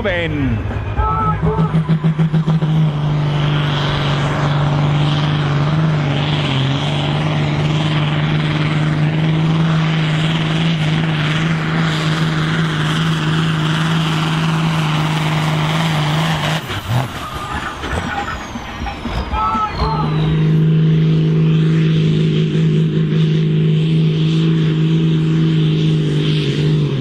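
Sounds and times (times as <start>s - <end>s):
tractor diesel engine at full load: 0.0s - 27.0s.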